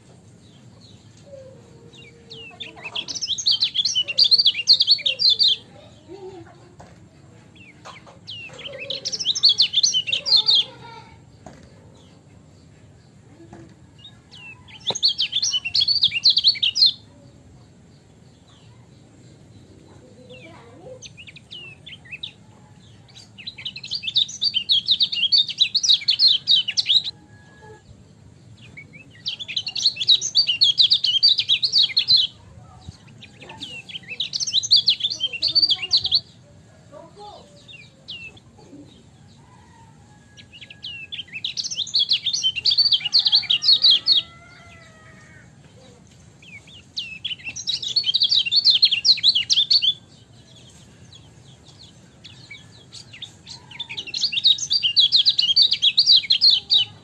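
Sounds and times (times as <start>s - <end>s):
bird chattering song: 0.3s - 6.8s, 7.5s - 27.2s, 28.2s - 57.0s.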